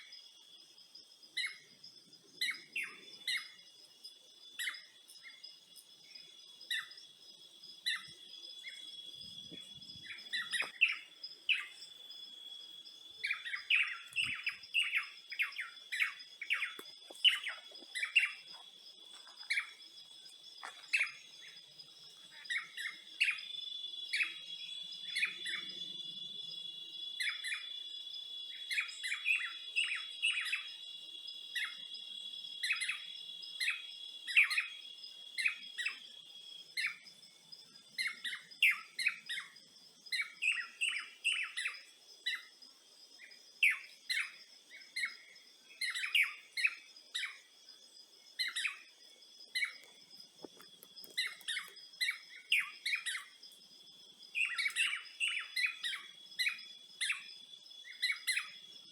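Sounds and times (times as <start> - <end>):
birds chirping: 1.4 - 36.2, 43.2 - 47.5, 48.3 - 53.5, 54.2 - 58.9.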